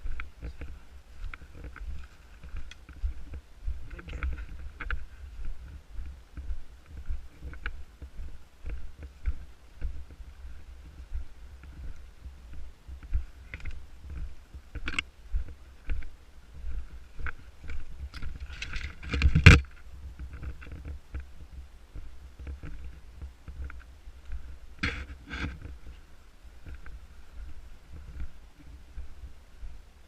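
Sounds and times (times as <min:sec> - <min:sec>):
low rumble on microphone: 0:00.0 - 0:30.0
rustling and crunching undergrowth: 0:00.0 - 0:30.0.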